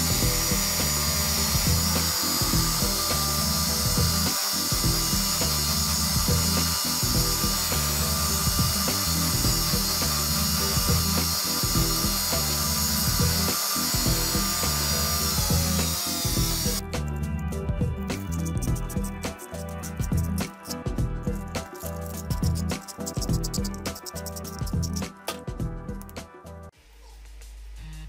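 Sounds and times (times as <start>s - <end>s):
bench grinder grinding metal: 0.0s - 17.2s, 18.1s - 25.2s.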